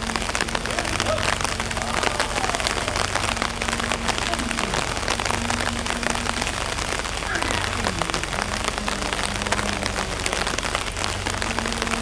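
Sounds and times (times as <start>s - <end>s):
rain pattering on hard surfaces: 0.0s - 12.0s.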